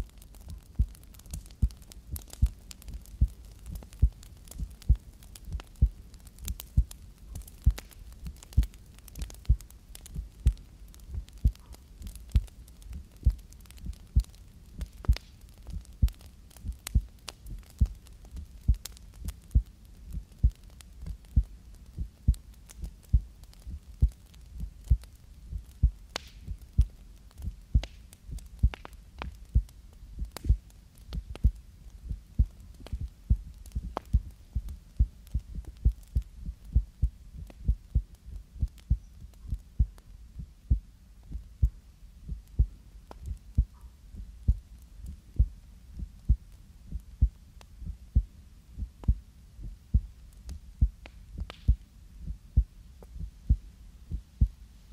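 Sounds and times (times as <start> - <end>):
heartbeat thumps: 0.5 - 6.0, 6.6 - 30.6, 31.2 - 54.6.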